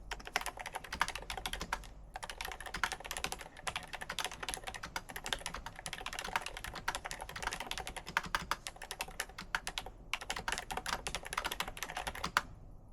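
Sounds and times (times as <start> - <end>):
mechanical keyboard typing: 0.1 - 12.5.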